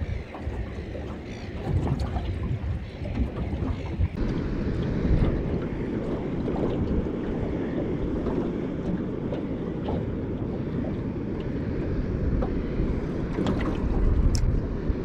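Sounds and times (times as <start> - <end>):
choppy sea water: 0.0 - 15.0
wind rumbling on microphone: 0.0 - 15.0.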